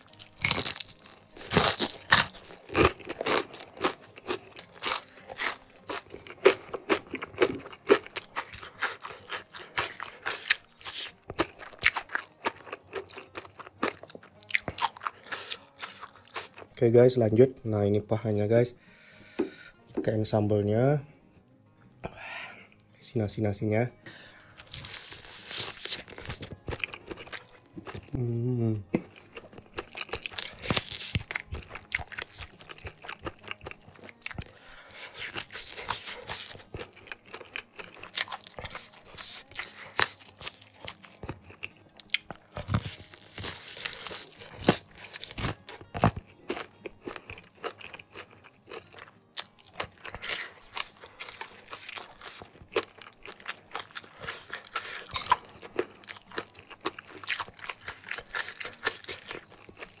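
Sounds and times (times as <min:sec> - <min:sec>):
person chewing crunchy food: 0:00.0 - 0:16.8, 0:24.5 - 1:00.0.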